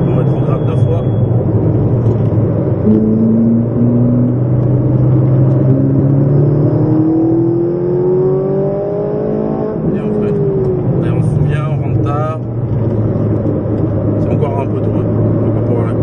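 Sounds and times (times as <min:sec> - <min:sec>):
car engine accelerating: 0:00.0 - 0:16.0
tyre and road noise: 0:00.0 - 0:16.0.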